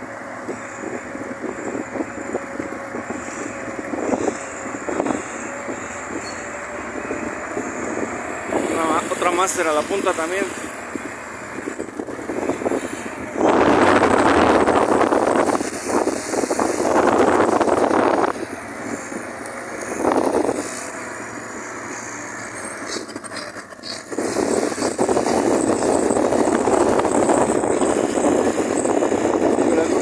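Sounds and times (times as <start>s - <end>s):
motor vehicle running: 0.0s - 30.0s.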